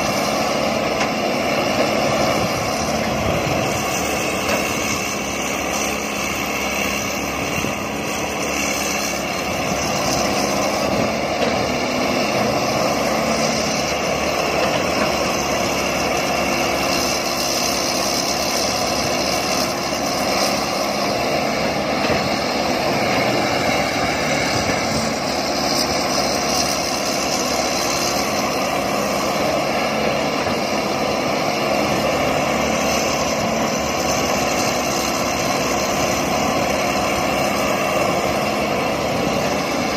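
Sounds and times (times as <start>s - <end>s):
excavator diesel engines droning: 0.0s - 39.9s.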